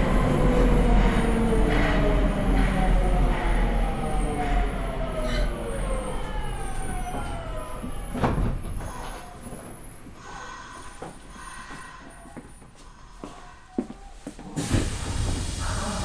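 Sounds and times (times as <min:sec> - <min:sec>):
train inverter whining: 0:00.0 - 0:12.8
train running noise: 0:00.0 - 0:16.0.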